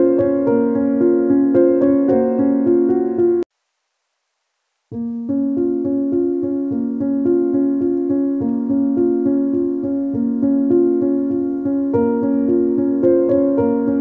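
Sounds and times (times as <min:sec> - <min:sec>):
piano keyboard melody: 0:00.0 - 0:03.5, 0:05.0 - 0:14.0.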